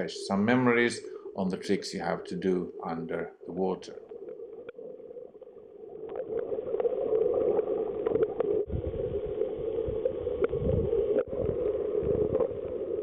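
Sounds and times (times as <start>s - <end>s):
muffled underwater water noise: 0.0s - 13.0s.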